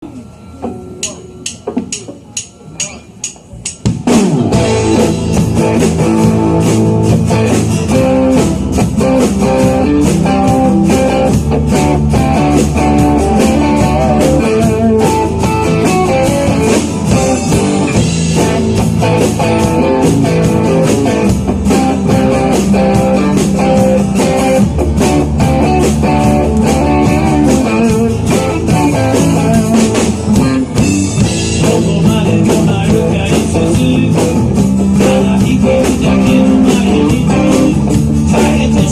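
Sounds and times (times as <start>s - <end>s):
rock band playing live: 0.2s - 38.9s.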